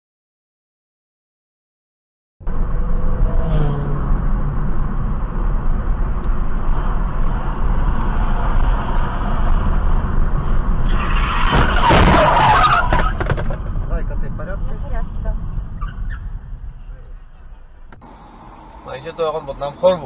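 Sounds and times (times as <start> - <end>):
car road and engine rumble: 2.4 - 20.0
tyres skidding: 2.5 - 20.0.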